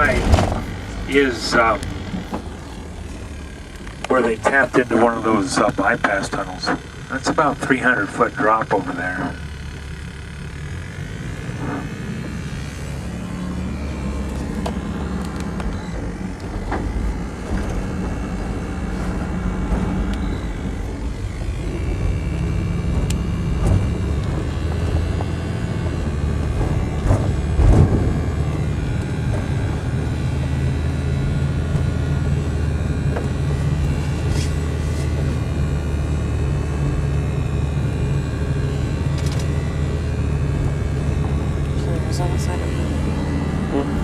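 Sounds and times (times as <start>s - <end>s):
vehicle bump: 0.0s - 44.0s
vehicle engine and road noise: 0.0s - 44.0s.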